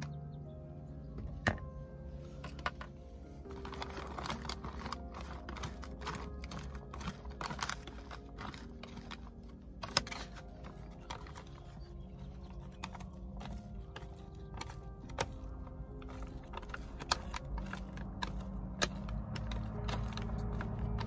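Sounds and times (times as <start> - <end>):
spoon stirring in foil pouch: 2.4 - 21.0.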